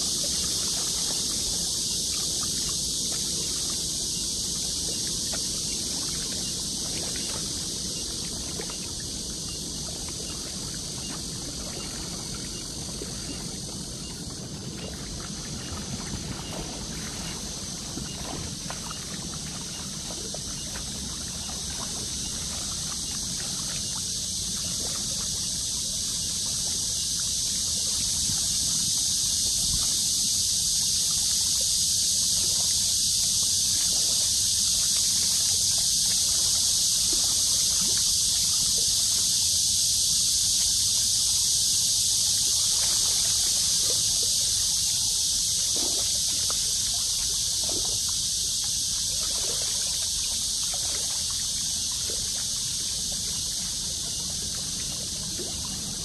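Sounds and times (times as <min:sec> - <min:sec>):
small waves lapping: 0:00.0 - 0:56.0.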